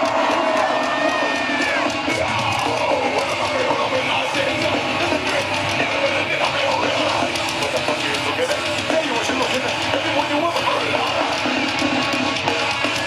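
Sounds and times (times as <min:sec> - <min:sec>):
person singing: 0:00.0 - 0:11.7
distorted guitars: 0:00.0 - 0:13.0
heavy metal band playing live: 0:00.0 - 0:13.0.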